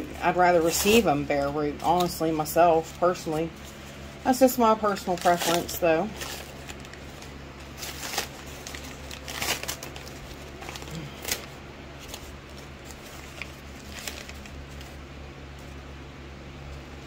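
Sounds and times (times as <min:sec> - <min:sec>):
packing paper crinkling: 0:00.0 - 0:15.8
low steady hum: 0:00.0 - 0:17.0.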